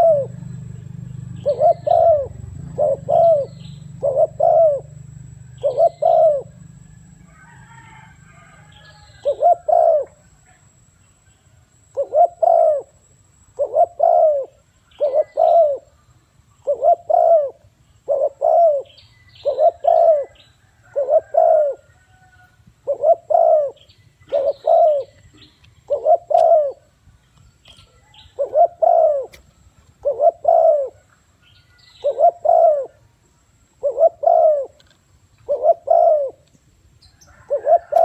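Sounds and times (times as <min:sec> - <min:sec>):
dove cooing: 0:00.0 - 0:10.4, 0:11.8 - 0:16.0, 0:16.6 - 0:26.9, 0:27.8 - 0:31.1, 0:31.8 - 0:33.1, 0:33.8 - 0:36.5, 0:37.2 - 0:38.0.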